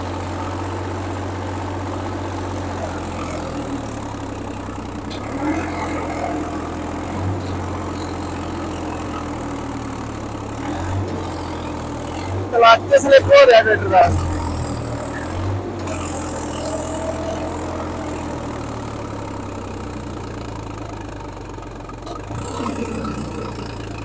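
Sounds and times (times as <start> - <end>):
tractor diesel engine droning: 0.0 - 24.0.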